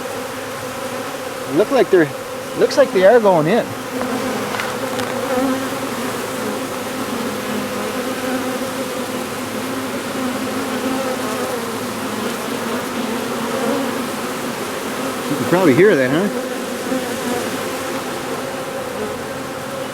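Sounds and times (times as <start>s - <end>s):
bee swarm buzzing: 0.0s - 19.9s.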